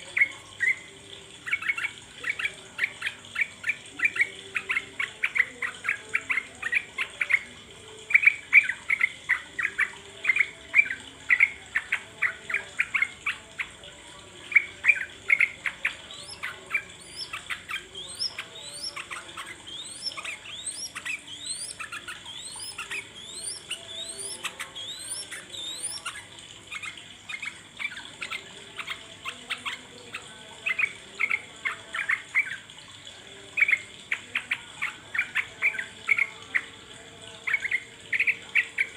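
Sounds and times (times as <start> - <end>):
bird song chattering notes: 0.0 - 38.9.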